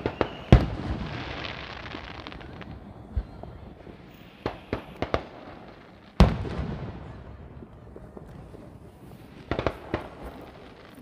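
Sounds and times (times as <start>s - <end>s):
fireworks boom with echo: 0.0s - 11.0s
fireworks cracking: 0.0s - 11.0s.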